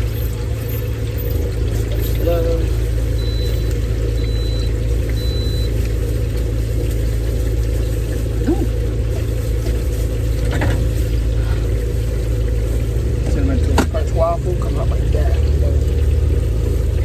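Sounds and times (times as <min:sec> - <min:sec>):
loud low machine hum: 0:00.0 - 0:17.0.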